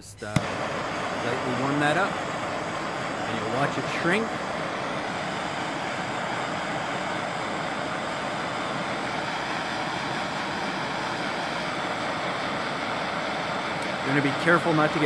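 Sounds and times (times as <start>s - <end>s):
gas torch hissing: 0.2s - 15.0s.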